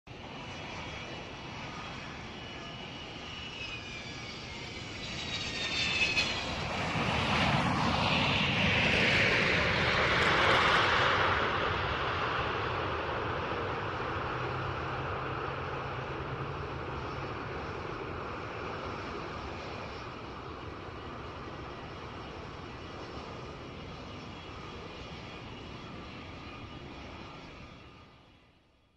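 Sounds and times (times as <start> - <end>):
jet engines whining and roaring: 0.1 - 28.8.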